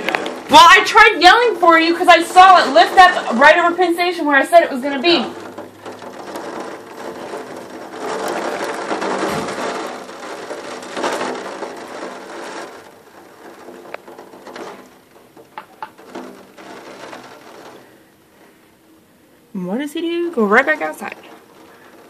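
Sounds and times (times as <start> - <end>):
wind and rain on window: 0.0 - 22.0.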